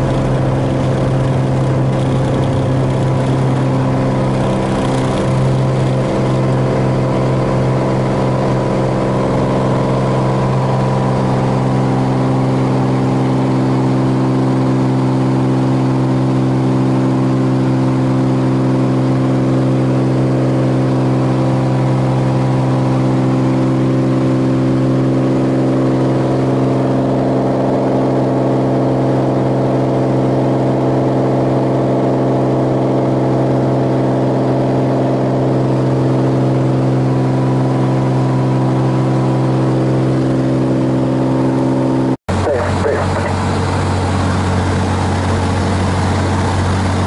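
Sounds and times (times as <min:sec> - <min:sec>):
aircraft engine droning in cockpit: 0:00.0 - 0:47.0.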